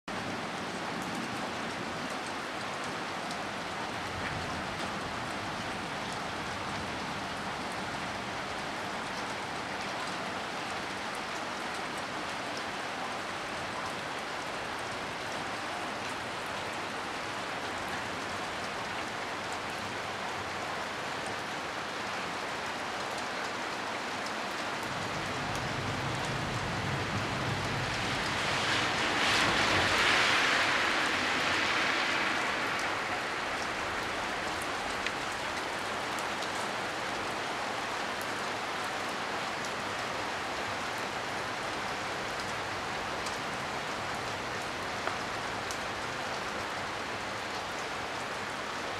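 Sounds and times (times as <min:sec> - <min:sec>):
heavy rain on concrete: 0:00.0 - 0:48.9.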